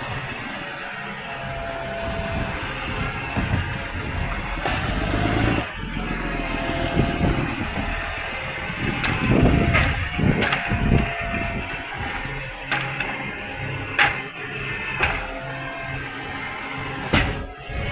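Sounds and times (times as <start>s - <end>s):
garbage truck diesel engine: 0.0s - 17.9s
steady whine: 0.0s - 17.9s.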